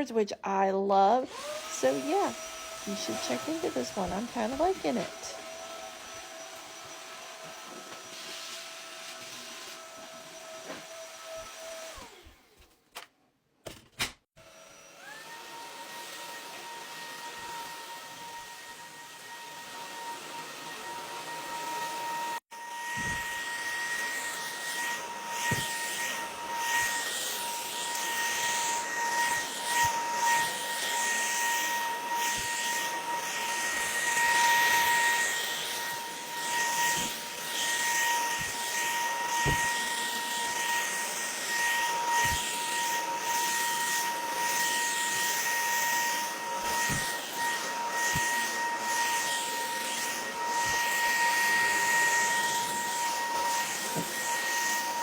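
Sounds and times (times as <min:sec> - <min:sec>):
vacuum cleaner running: 0:01.2 - 0:12.6, 0:14.4 - 0:55.0.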